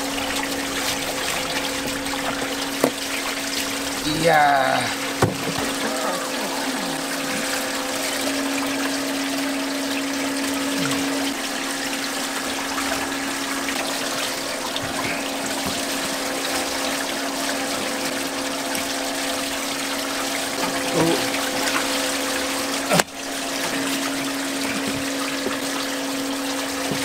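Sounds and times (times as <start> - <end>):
low steady hum: 0.0 - 27.0
splashing running water: 0.0 - 27.0.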